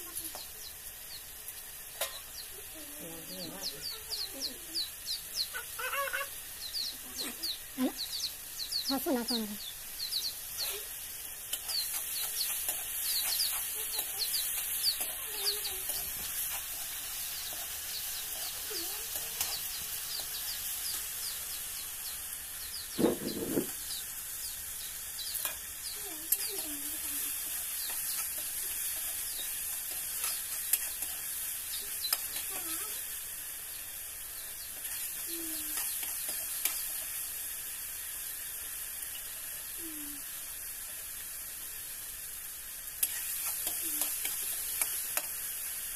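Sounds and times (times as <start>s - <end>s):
masala sizzling in oil: 0.0s - 45.9s.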